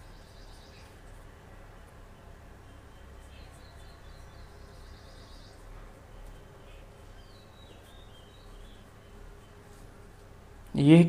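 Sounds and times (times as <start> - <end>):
faint bird chirps: 0.0 - 1.1, 2.1 - 10.2
faint background noise: 0.0 - 11.0.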